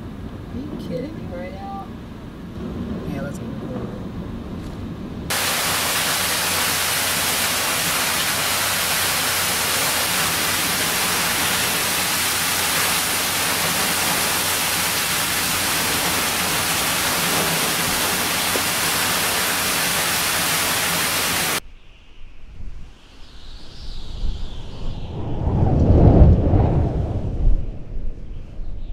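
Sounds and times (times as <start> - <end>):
roar of wind and rain: 0.0 - 28.9.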